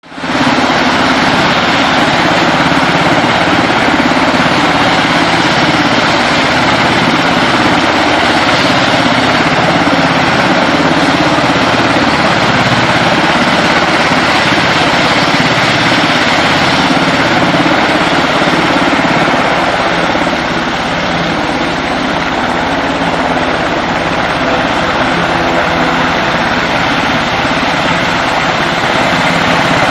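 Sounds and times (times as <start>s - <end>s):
helicopter engines and rotors: 0.0s - 29.9s.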